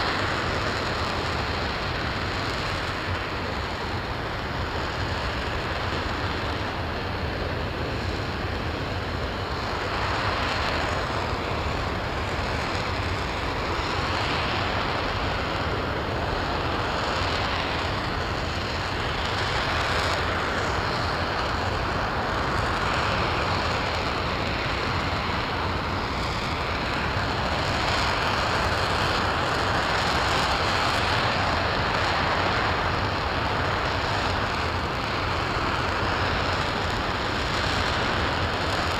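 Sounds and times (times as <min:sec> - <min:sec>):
rocket engine firing: 0:00.0 - 0:38.9.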